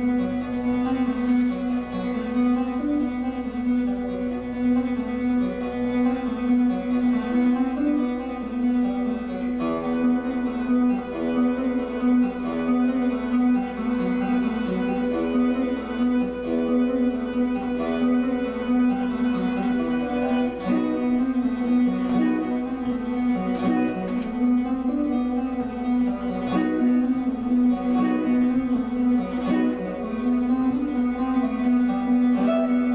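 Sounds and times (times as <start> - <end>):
plucked guitar notes: 0.0 - 32.9.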